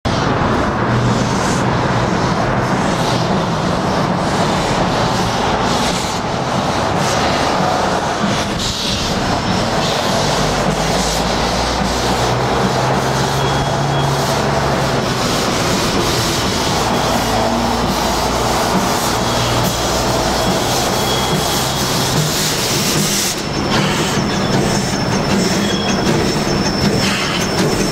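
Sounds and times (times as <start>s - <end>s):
steam locomotive blowing steam: 0.1s - 27.9s.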